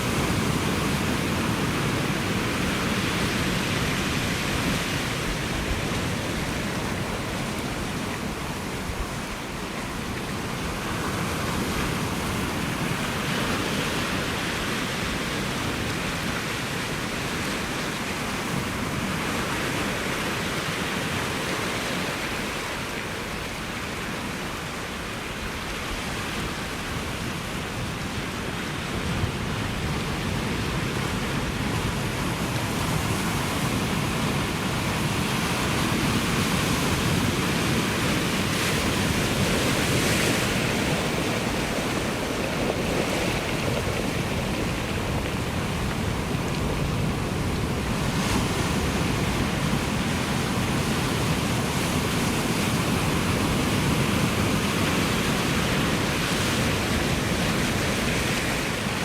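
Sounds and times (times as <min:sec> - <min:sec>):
ocean surf washing ashore: 0:00.0 - 0:59.0.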